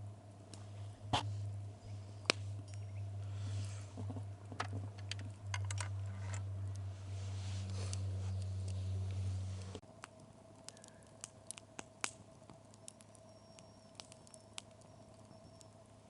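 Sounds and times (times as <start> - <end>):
steady low hum: 0.0 - 16.0
wood fire crackling: 0.0 - 16.0.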